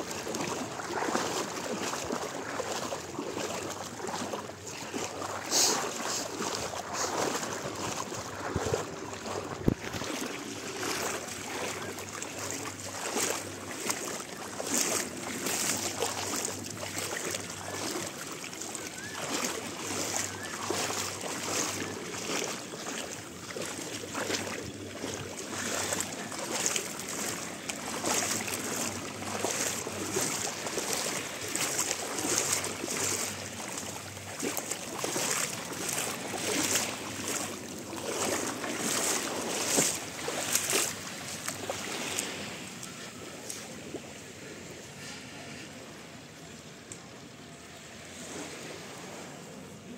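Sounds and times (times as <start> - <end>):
sea water lapping and splashing: 0.0 - 49.9.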